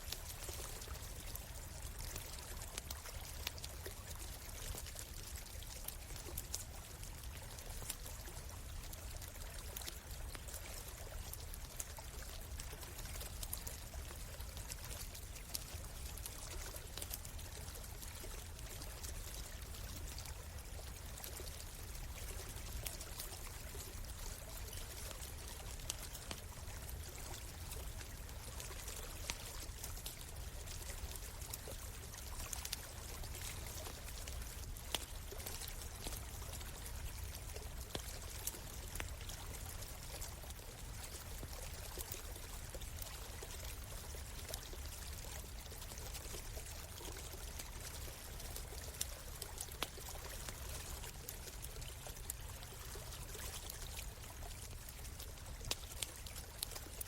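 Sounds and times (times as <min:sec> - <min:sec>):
flowing stream: 0:00.0 - 0:57.0
campfire crackling and popping: 0:00.2 - 0:47.6, 0:48.3 - 0:52.8, 0:54.6 - 0:57.0.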